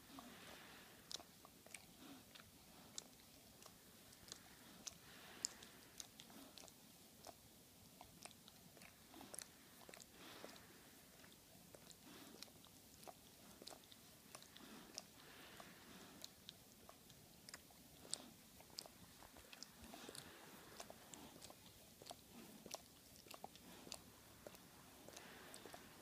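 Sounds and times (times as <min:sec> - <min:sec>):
dog licking: 0:00.0 - 0:26.0.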